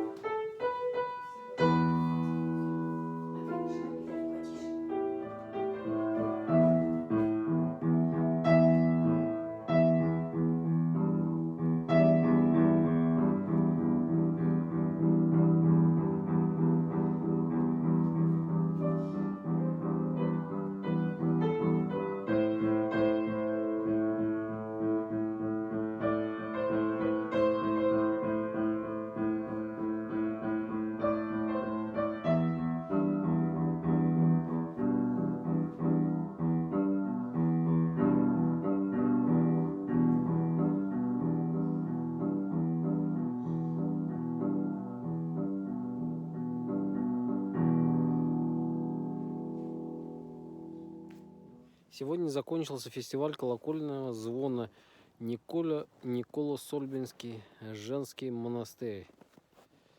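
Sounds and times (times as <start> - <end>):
slow piano music: 0.0 - 51.9.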